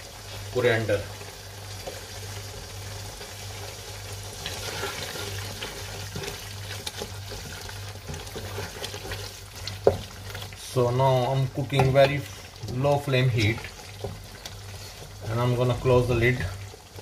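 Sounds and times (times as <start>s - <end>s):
gravy sizzling and bubbling: 0.0s - 17.0s
wooden spoon scraping a pan: 0.2s - 17.0s.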